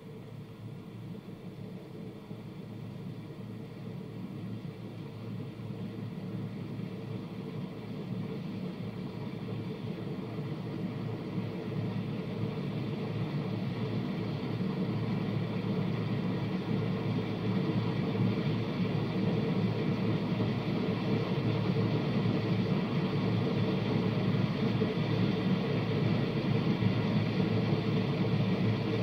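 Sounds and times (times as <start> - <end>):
faint hum: 0.0 - 29.0
low rumble and hiss: 0.0 - 29.0.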